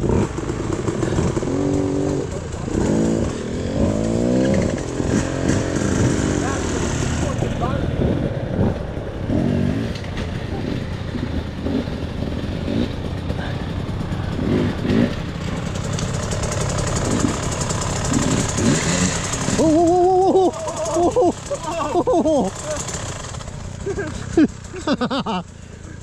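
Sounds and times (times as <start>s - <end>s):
dirt bike engines running: 0.0s - 26.0s.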